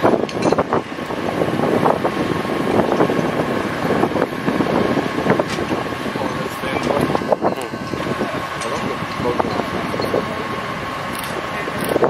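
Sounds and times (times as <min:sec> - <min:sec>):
fire engine motors droning: 0:00.0 - 0:12.0
wind buffeting microphone: 0:00.0 - 0:12.0.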